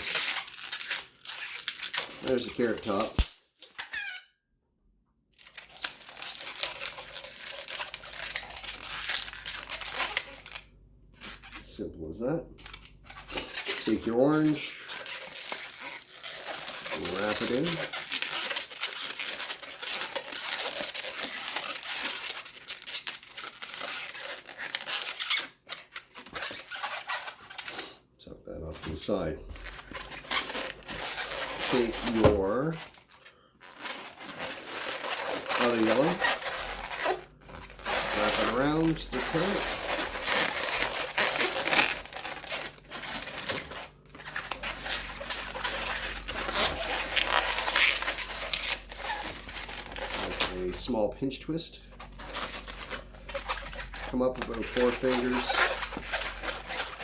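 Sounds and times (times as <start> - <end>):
balloons squeaking and rubbing: 0.0 - 4.3, 5.4 - 57.0.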